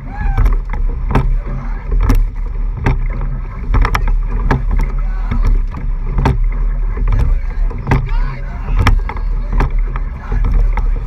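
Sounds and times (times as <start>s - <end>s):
low rumble: 0.0s - 11.0s
oars clacking in oarlocks: 0.0s - 11.0s
water rushing along hull: 0.0s - 11.0s.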